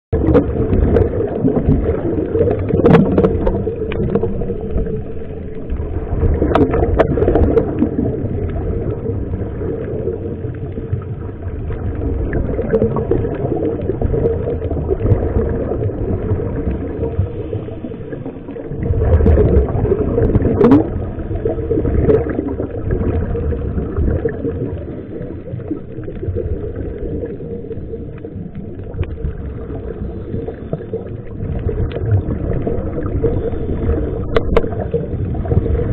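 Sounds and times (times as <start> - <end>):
muffled rumble of water: 0.1 - 35.9
water gurgling and splashing: 0.1 - 35.9.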